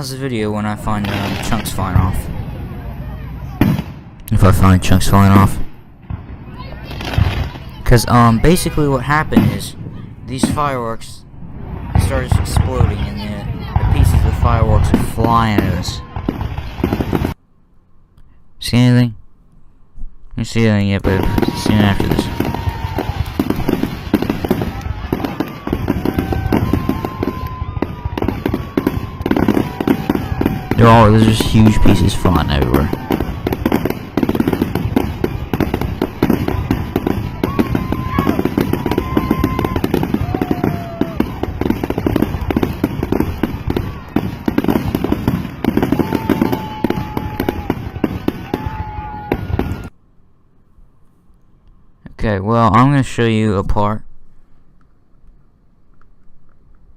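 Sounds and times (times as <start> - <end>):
fireworks cracking and banging: 0.0 - 17.4, 21.0 - 49.9
low booming: 0.7 - 17.4, 21.0 - 49.9.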